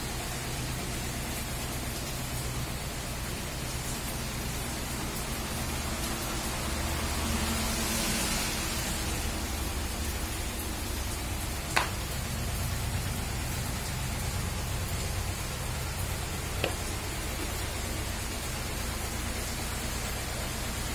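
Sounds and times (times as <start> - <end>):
steady rain falling: 0.0 - 20.9.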